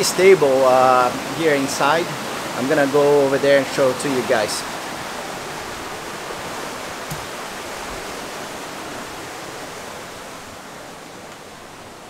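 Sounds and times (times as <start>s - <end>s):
rushing water: 0.0s - 12.0s
wind: 0.0s - 12.0s.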